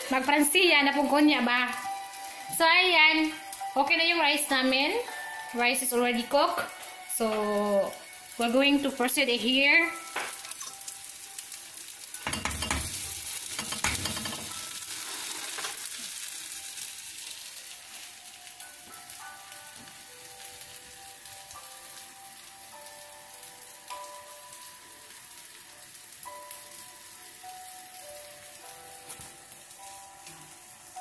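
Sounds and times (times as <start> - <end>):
food frying in hot oil: 0.0 - 31.0.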